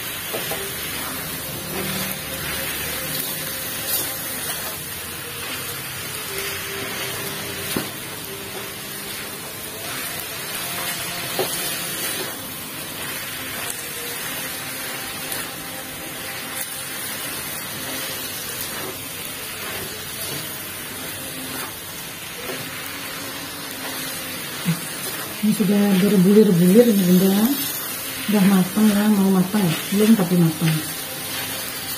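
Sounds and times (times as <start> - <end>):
meat sizzling in oil: 0.0 - 31.9.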